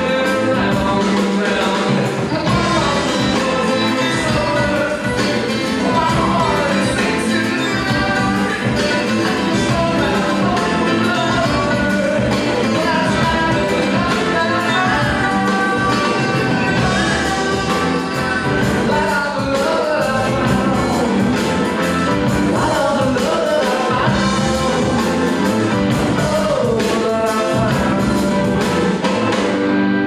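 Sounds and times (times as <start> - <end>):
recorded song with singer and band: 0.0 - 30.0.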